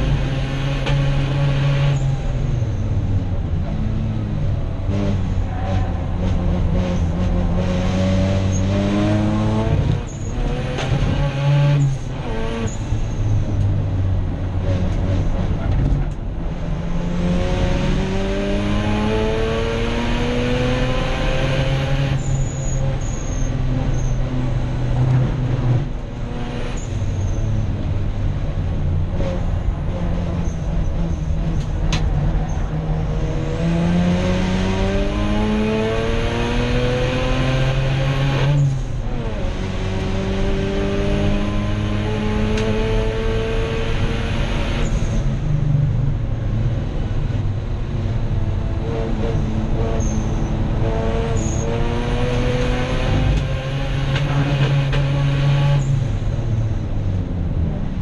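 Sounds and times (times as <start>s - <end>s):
race car engine accelerating: 0.0s - 13.7s, 14.5s - 28.4s, 29.0s - 45.6s, 47.9s - 57.2s
road and wind noise: 0.0s - 58.0s.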